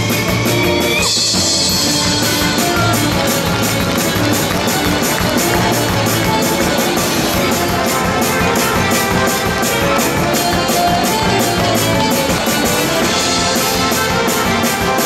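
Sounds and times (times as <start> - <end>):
loud music with fast beat: 0.0 - 15.0.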